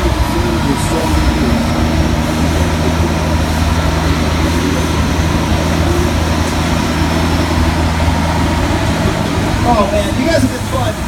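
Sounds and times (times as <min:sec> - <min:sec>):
road noise: 0:00.0 - 0:11.0
tram engine drone: 0:00.0 - 0:11.0.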